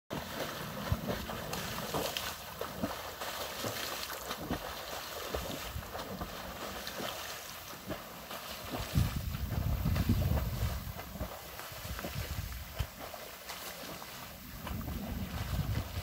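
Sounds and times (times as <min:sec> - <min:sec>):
swimmer's arm strokes splashing: 0:00.1 - 0:16.0.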